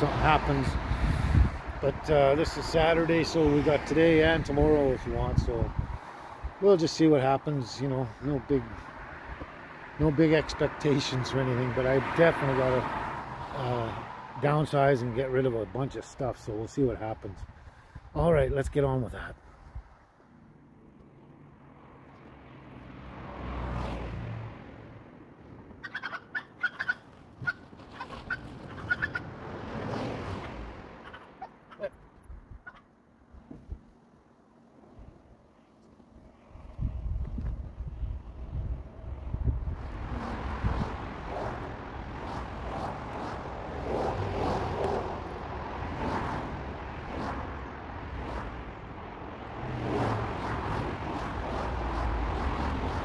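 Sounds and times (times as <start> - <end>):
car passing: 0.0 - 18.0, 18.8 - 32.0, 34.2 - 53.0.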